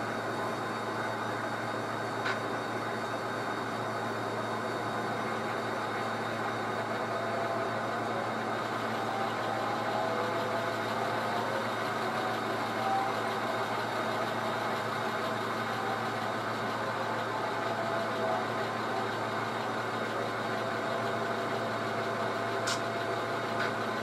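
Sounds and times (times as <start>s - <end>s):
model locomotive diesel engine: 0.0s - 24.0s.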